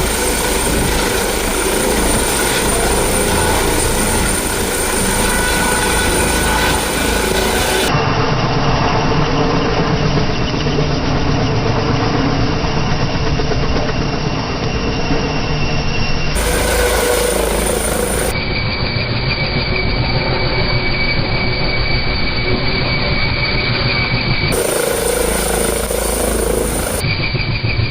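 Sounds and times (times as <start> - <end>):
helicopter rotor and engine: 0.0 - 27.9
high turbine whine: 0.0 - 27.9.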